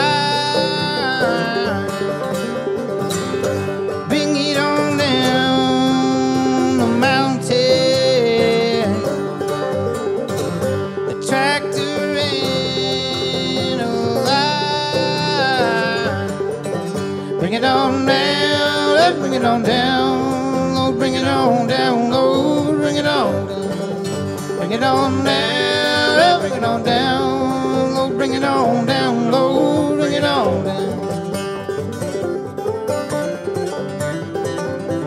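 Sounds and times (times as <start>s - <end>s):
person singing: 0.0s - 2.9s, 3.9s - 9.8s, 10.9s - 31.4s
acoustic guitar: 0.0s - 35.0s
banjo playing: 0.0s - 35.0s.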